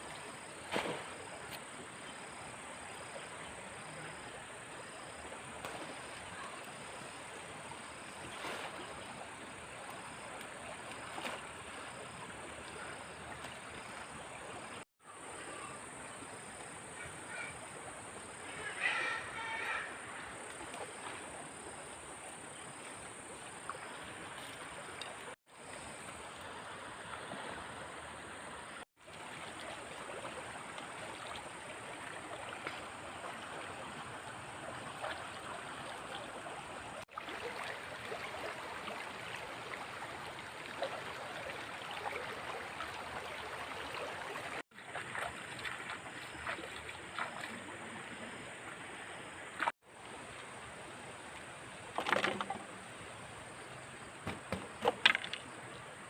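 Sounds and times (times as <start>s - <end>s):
floodwater rushing and splashing: 0.0s - 15.7s, 16.4s - 56.0s.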